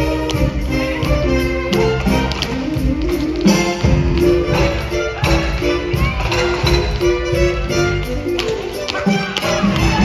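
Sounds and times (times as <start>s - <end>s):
upbeat orchestral dance music: 0.0s - 10.0s.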